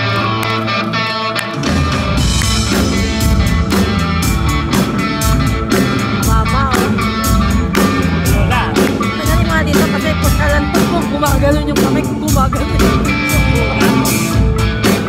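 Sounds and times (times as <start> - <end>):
blues-rock band playing: 0.0 - 15.0
drums and bass: 0.0 - 15.0
held guitar notes: 0.0 - 15.0.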